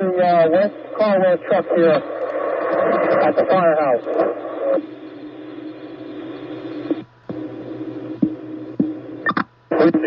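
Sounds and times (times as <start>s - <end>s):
radio crackle: 0.0s - 10.0s
scanner radio hum and hiss: 0.0s - 10.0s.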